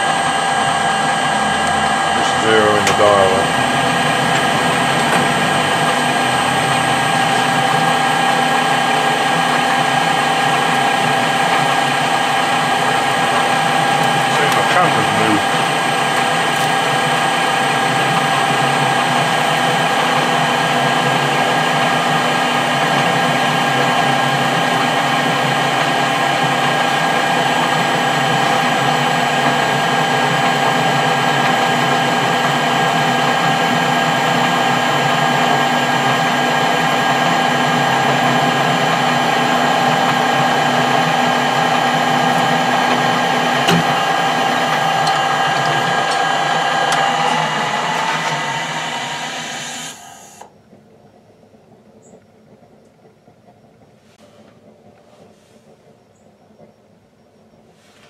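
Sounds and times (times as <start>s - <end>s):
metal lathe humming: 0.0s - 50.5s.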